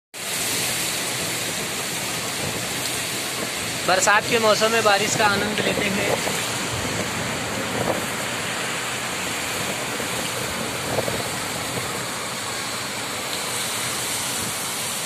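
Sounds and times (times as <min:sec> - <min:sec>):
heavy rain on standing water: 0:00.1 - 0:15.0.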